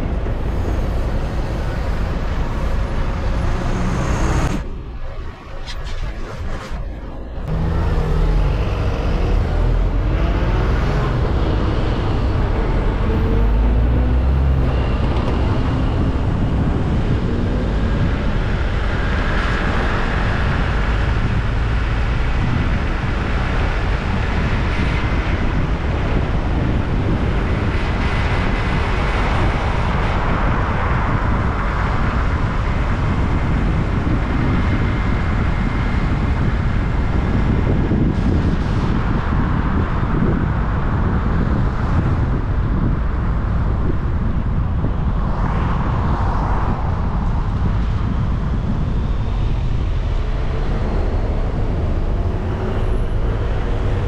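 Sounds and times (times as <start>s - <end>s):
car engine and tyre rumble: 0.0s - 54.0s
passing traffic: 0.0s - 54.0s.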